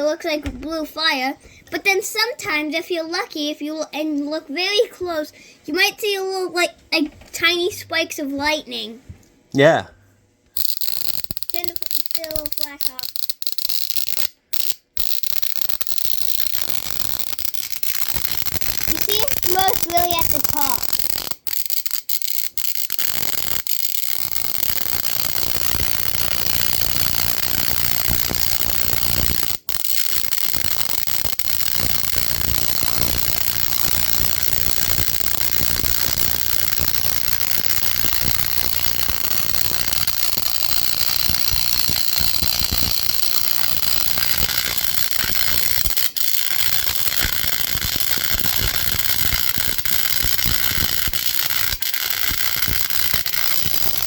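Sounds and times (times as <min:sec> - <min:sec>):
spark gap crackling: 0:10.5 - 0:54.0.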